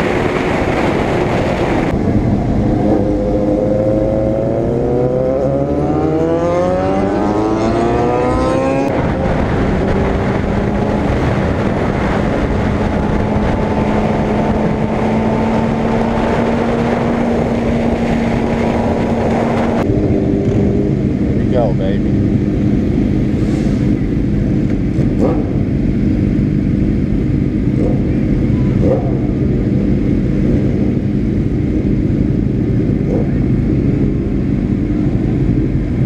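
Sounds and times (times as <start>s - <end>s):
motorcycle engine accelerating: 0.0s - 36.0s
wind noise on microphone: 0.0s - 36.0s.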